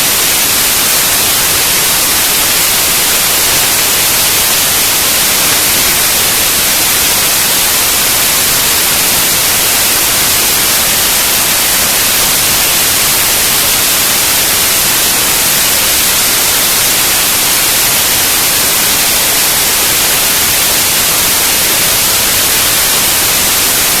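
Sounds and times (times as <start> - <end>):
loud steady static hiss: 0.0 - 24.0.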